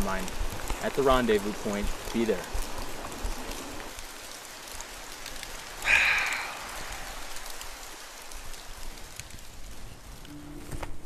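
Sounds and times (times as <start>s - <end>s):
running water hiss: 0.0s - 11.0s.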